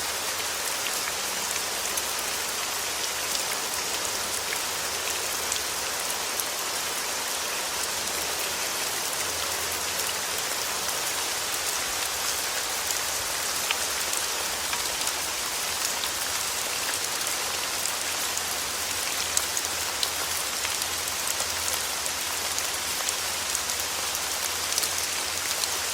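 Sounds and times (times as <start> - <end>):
steady rain on a surface: 0.0 - 25.9.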